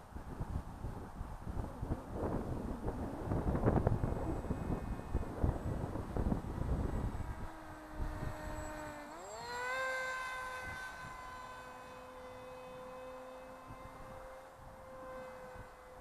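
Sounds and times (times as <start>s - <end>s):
electric motor and propeller whining: 0.0s - 16.0s
wind buffeting microphone: 0.0s - 16.0s.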